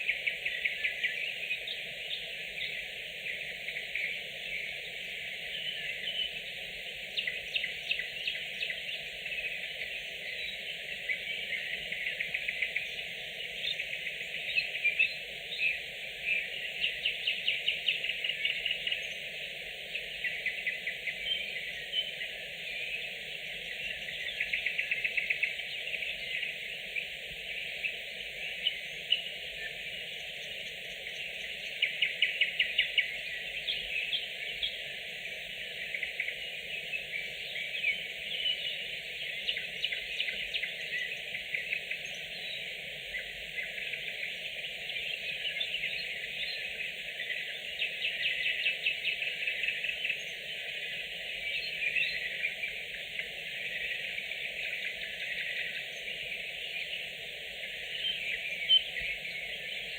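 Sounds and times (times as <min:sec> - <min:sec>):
nightingale singing: 0:00.0 - 0:59.9
steady background hiss: 0:00.0 - 0:59.9.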